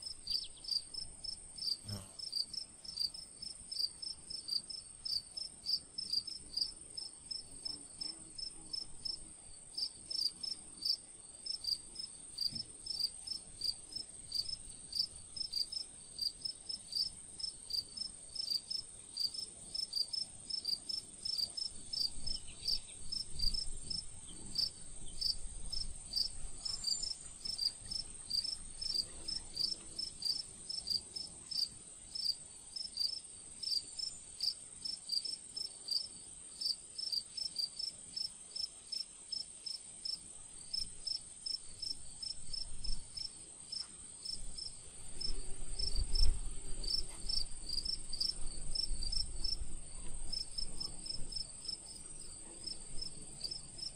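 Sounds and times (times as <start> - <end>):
insects chirping: 0.0 - 7.8, 9.8 - 53.9.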